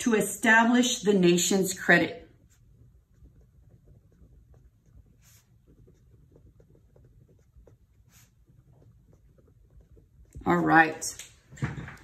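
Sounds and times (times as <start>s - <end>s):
pen scratching on paper: 0.8s - 11.1s.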